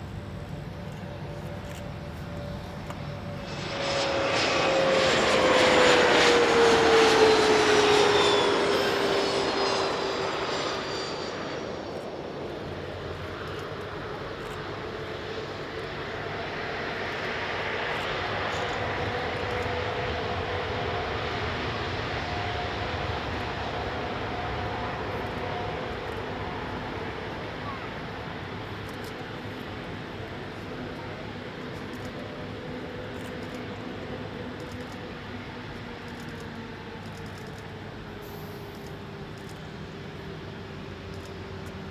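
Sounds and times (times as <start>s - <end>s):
jet engines roaring past: 0.0s - 41.9s.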